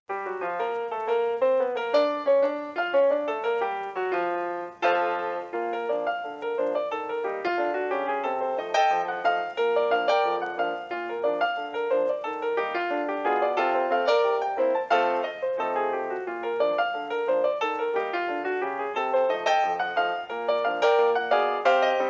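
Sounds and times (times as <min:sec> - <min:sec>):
piano music: 0:00.1 - 0:22.0.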